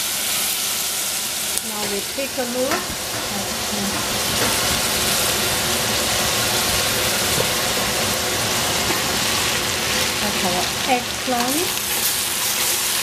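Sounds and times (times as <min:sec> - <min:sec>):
eggplant sizzling in a pan: 0:00.0 - 0:13.0.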